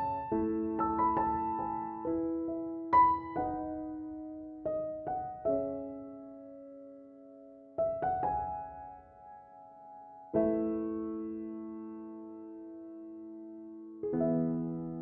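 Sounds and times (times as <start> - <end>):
slow soft piano chords: 0.0 - 15.0.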